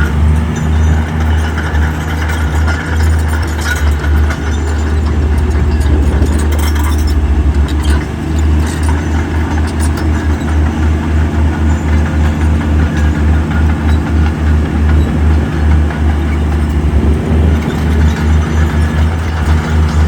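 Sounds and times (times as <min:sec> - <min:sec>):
heavy diesel engine throbbing: 0:00.0 - 0:20.0
metallic clanking: 0:00.0 - 0:20.0.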